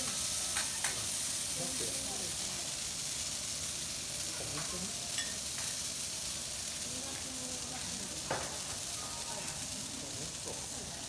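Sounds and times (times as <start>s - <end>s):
vegetables sizzling on griddle: 0.0s - 11.0s.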